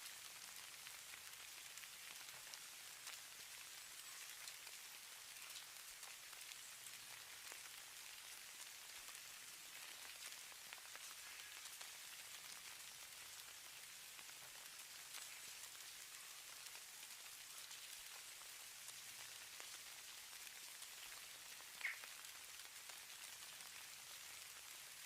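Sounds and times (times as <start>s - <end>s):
falling snow pattering: 0.0s - 25.0s.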